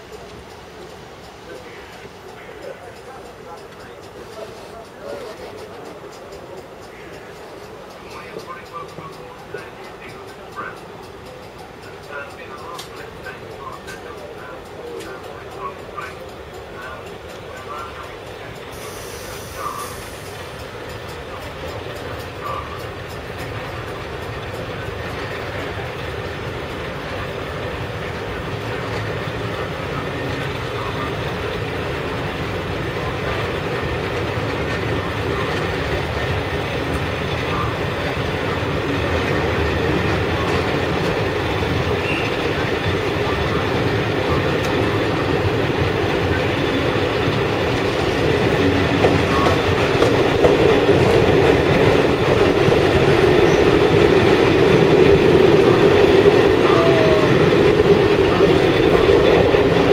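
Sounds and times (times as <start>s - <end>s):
steam locomotive running: 0.0s - 59.9s
train rumble: 0.0s - 59.9s.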